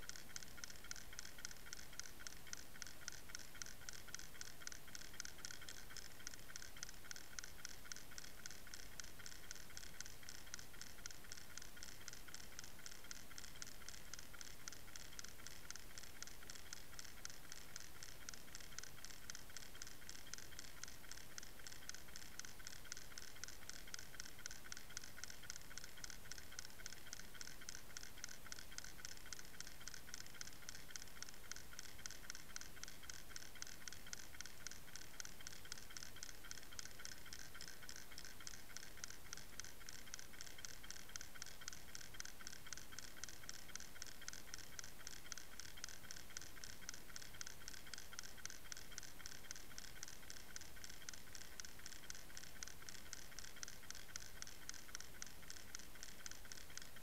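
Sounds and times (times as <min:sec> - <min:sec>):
fast steady ticking underwater: 0:00.0 - 0:57.0.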